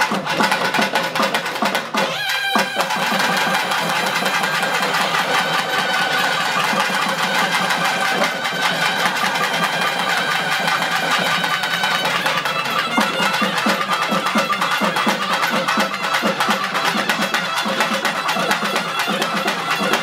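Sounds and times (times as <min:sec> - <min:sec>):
drums beating steady rhythm: 0:00.0 - 0:20.0
reed pipes playing melody: 0:02.1 - 0:20.0.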